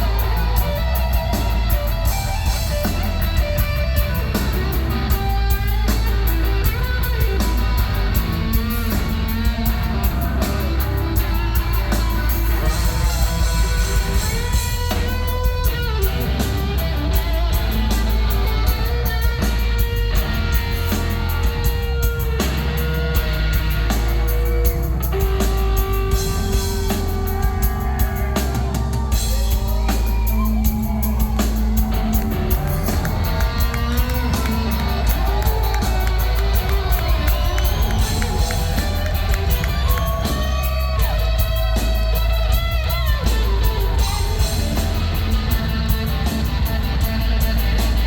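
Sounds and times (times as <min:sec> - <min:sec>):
drum kit: 0:00.0 - 0:48.0
electric guitar lead: 0:00.0 - 0:48.0
heavy bass: 0:00.0 - 0:48.0.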